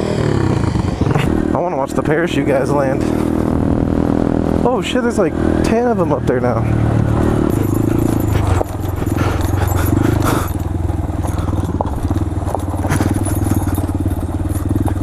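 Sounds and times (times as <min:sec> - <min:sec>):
motorcycle engine running: 0:00.0 - 0:15.0
bike rattling over rough ground: 0:00.2 - 0:04.9, 0:05.7 - 0:15.0.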